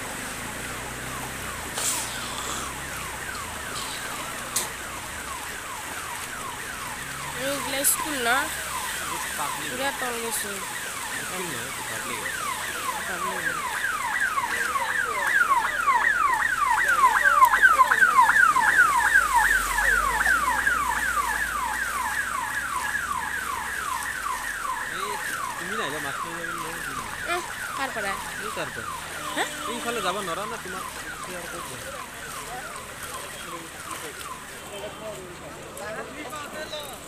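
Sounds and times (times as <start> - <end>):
ambulance siren: 0.0 - 37.0.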